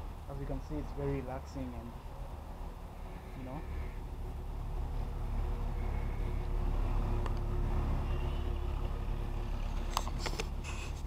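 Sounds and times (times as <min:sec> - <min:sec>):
faint engine hum: 0:00.0 - 0:11.0
road traffic rumble: 0:00.0 - 0:11.0.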